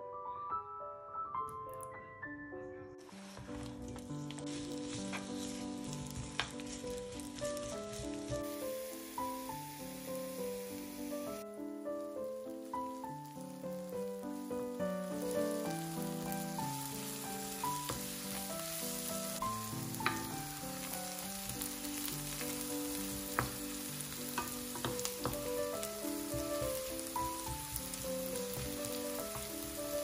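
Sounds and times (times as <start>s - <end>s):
soft background music: 0.0s - 30.0s
onions sizzling in oil: 3.1s - 30.0s.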